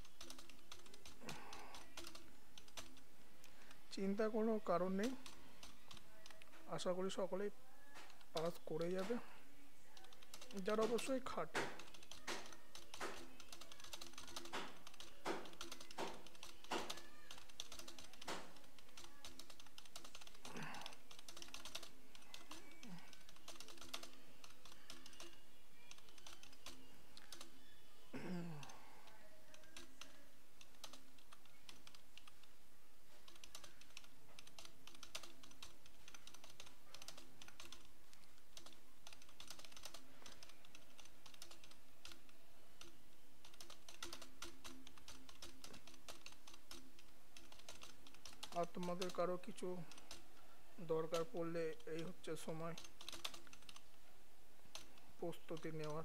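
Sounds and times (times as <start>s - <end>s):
keyboard keys clicking: 0.0s - 27.6s, 28.5s - 54.0s, 54.7s - 56.0s.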